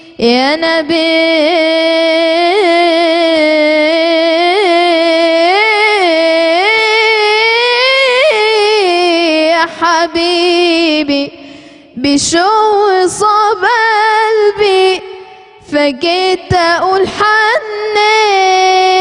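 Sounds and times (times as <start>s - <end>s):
woman singing devotional song: 0.0s - 19.0s.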